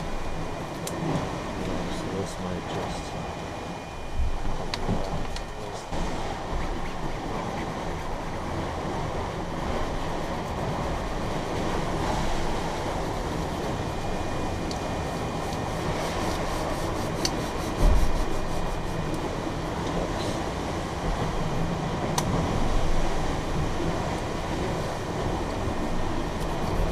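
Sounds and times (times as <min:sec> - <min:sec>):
water rushing past hull: 0:00.0 - 0:26.9.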